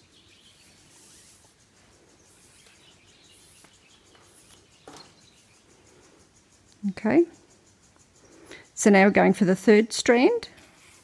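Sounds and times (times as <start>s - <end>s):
distant birds chirping: 0.0s - 11.0s.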